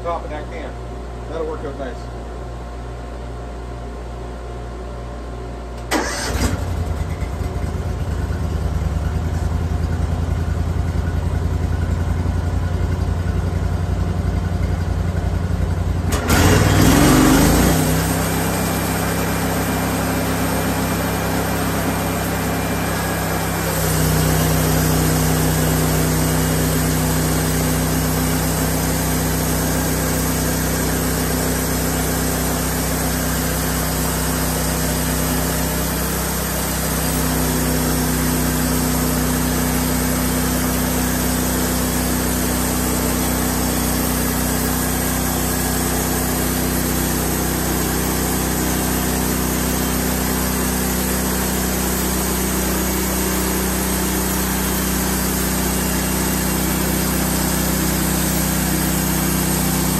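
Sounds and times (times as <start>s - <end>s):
sawmill engine running: 5.8s - 59.9s.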